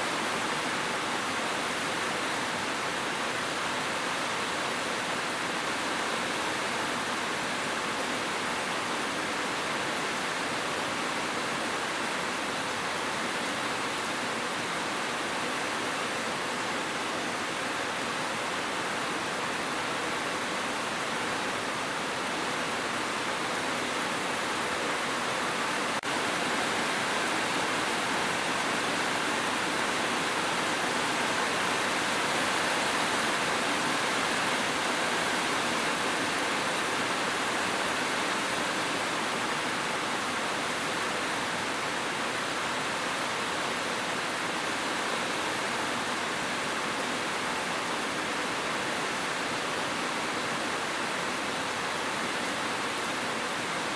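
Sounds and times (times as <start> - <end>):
dense rain hiss: 0.0 - 53.9.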